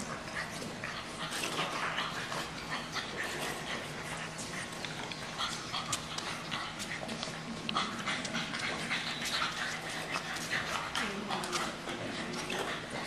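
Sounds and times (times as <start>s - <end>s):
puppies breathing heavily: 0.0s - 13.0s.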